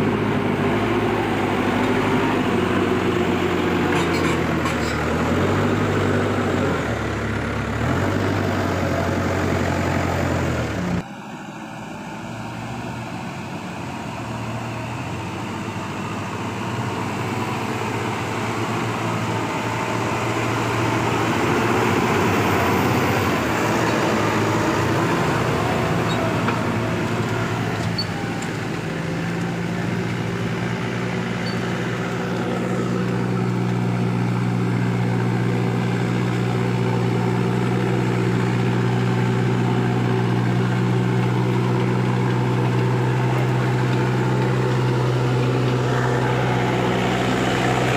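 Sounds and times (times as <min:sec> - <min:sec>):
heavy machine diesel engine: 0:00.0 - 0:47.9.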